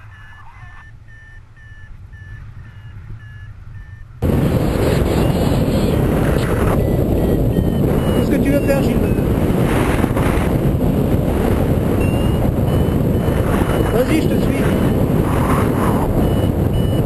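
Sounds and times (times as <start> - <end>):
variometer beeping: 0.0 - 9.4, 10.4 - 17.0
wind rushing over microphone: 0.9 - 17.0.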